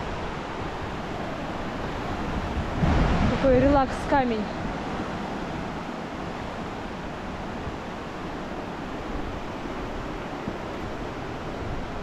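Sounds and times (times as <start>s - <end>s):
mountain river rushing: 0.0s - 12.0s.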